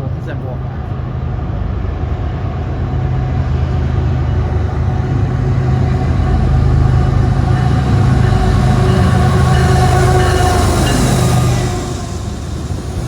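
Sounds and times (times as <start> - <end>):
diesel locomotive engines droning: 0.0 - 13.0.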